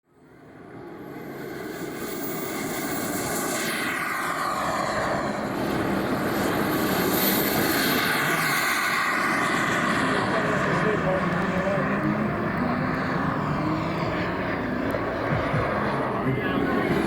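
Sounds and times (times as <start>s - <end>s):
model jet turbine engine: 0.2s - 17.0s.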